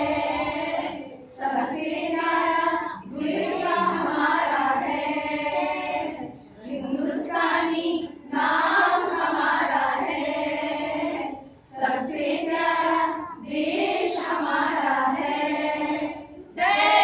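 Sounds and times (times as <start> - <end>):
children and women singing: 0.0 - 17.0.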